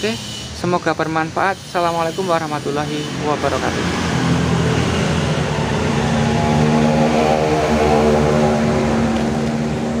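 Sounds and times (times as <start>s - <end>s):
engine-like drone: 1.6s - 10.0s.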